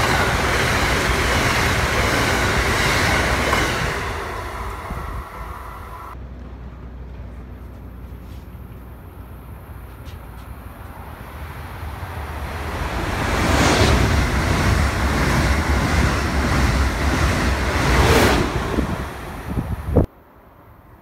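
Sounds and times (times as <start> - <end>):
high-speed train passing: 0.0 - 8.0, 8.6 - 21.0.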